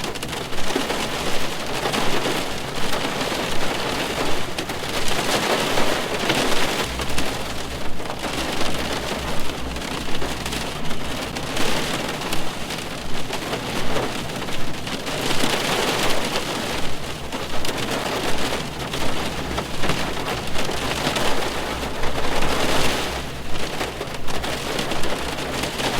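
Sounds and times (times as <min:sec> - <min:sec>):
rain on a car roof: 0:00.0 - 0:25.9.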